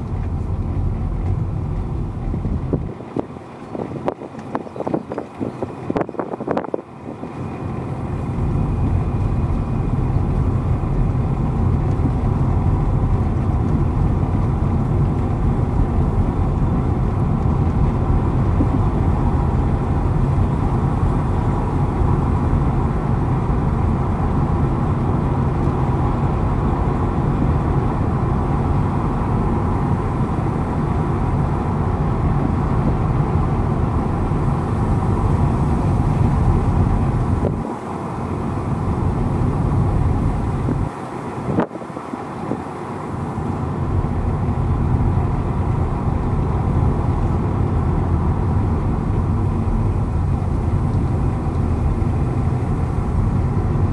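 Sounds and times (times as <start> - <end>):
road and engine rumble inside car: 0.0 - 53.9.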